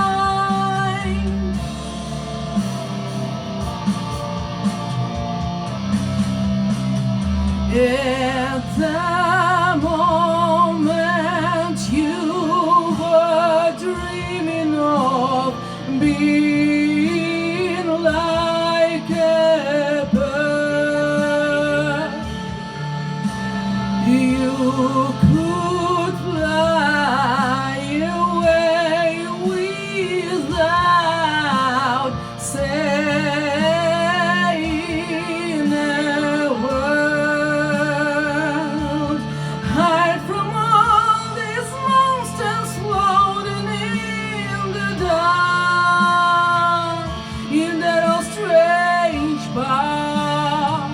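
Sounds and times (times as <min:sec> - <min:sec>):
instrumental backing: 0:00.0 - 0:50.9
person singing with vibrato: 0:00.0 - 0:50.9.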